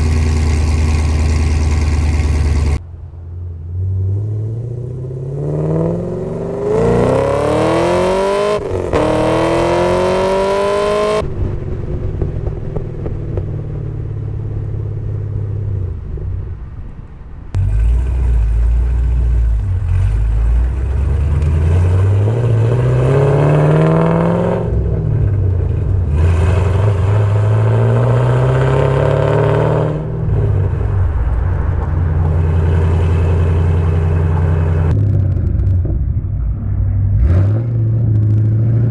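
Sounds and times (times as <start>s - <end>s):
car engine accelerating hard: 0.0s - 2.8s, 3.7s - 15.8s, 17.5s - 38.9s.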